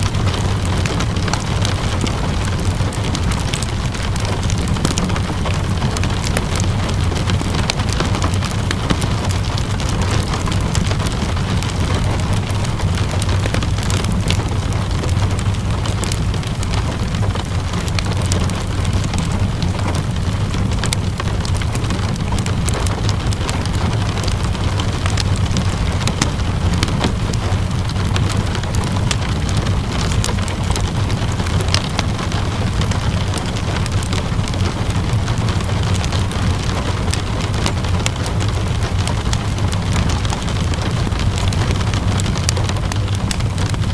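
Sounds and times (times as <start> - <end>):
rain hissing: 0.0 - 43.9
wood fire crackling: 0.0 - 43.9.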